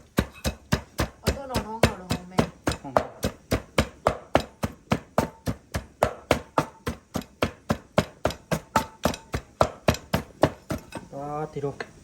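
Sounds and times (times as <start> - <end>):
pestle pounding in a mortar: 0.0 - 11.2.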